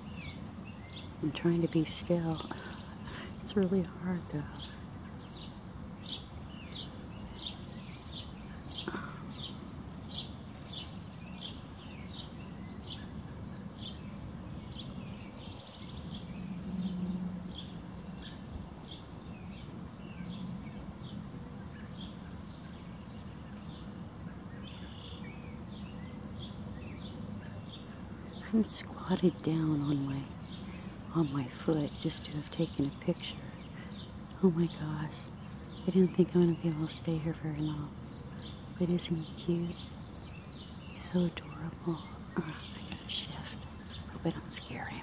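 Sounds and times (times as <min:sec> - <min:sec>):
insect trill: 0:00.0 - 0:45.0
small birds chirping: 0:00.0 - 0:45.0.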